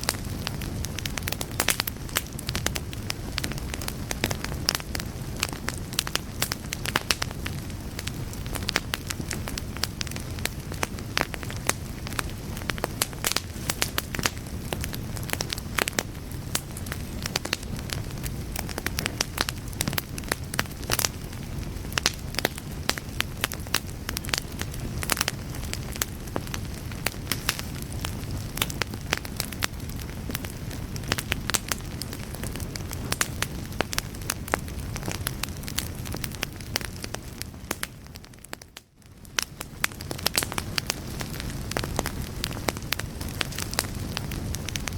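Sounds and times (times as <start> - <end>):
rush of flame: 0.0 - 44.9
wood fire crackling and popping: 0.0 - 44.9.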